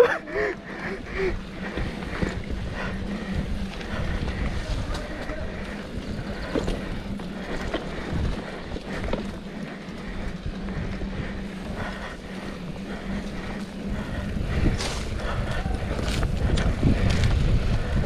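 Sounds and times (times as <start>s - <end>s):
bike tyre rumble on dirt: 0.0s - 18.0s
wind buffeting microphone: 0.0s - 18.0s.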